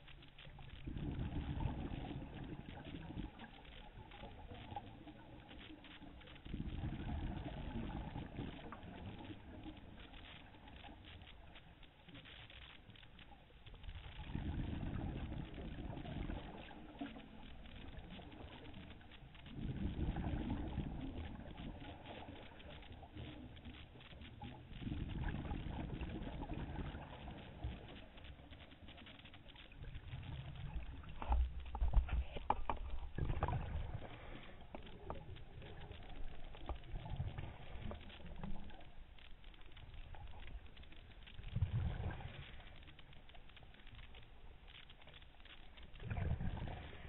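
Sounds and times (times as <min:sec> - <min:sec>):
gurgle of exhaled bubbles underwater: 0:00.0 - 0:47.0.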